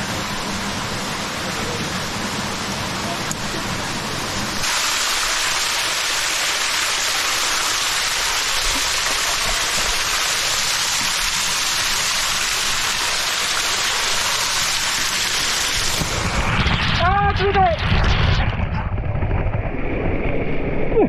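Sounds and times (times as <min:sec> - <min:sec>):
water cascading over rocks: 0:00.0 - 0:17.7.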